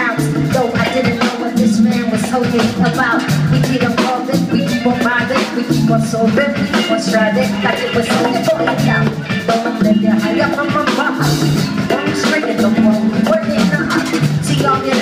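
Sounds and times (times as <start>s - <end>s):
bass line: 0.0s - 15.0s
drum kit: 0.0s - 15.0s
guitar: 0.0s - 15.0s
hand percussion: 0.0s - 15.0s.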